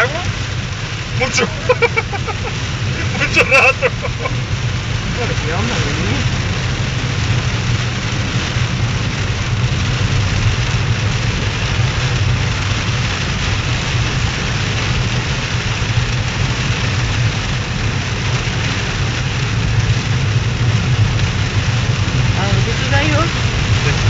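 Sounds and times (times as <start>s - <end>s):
engine and road hum: 0.0s - 24.0s
heavy rain drumming on car: 0.0s - 24.0s.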